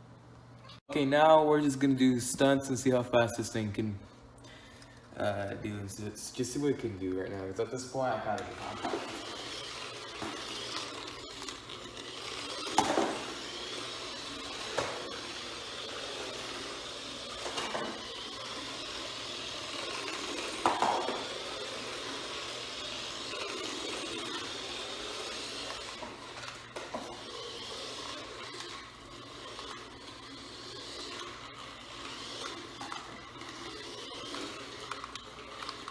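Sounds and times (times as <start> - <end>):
toy car electric motor whine: 4.7 - 35.9.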